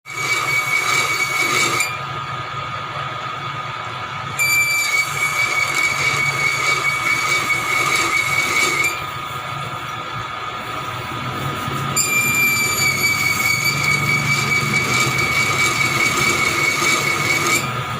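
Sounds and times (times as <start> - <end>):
high squeal of metal cutting: 0.1 - 2.2, 4.3 - 9.5, 10.7 - 17.9
low machine hum: 0.1 - 17.9.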